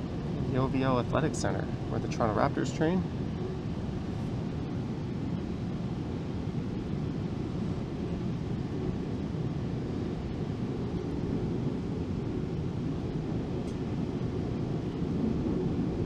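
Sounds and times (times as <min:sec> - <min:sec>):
train rumbling in motion: 0:00.0 - 0:16.0.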